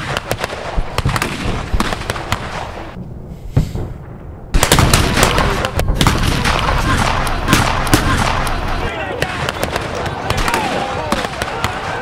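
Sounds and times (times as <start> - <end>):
rifle fire crackling: 0.0 - 12.0.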